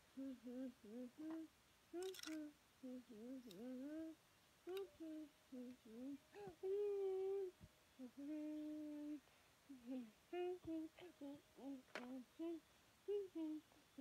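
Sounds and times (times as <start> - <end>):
child humming: 0.0 - 14.0.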